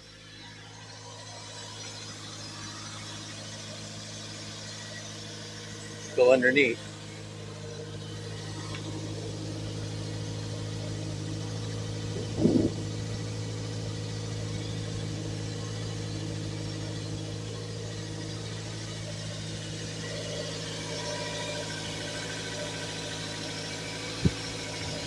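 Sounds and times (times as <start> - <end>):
car engine fast idle: 0.0 - 25.0.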